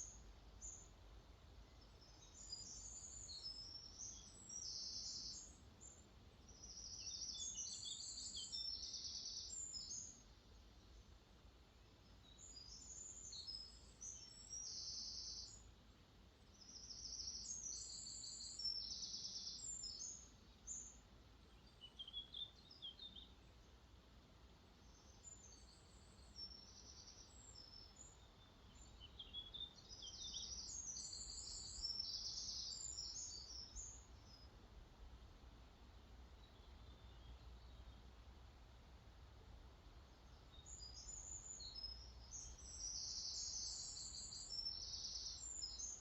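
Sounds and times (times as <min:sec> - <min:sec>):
songbirds chirping: 0:00.0 - 0:46.0.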